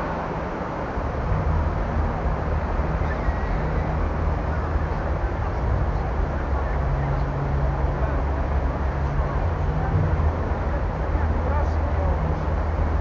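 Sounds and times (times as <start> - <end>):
low constant rumble: 0.0 - 13.0
road traffic: 0.0 - 13.0.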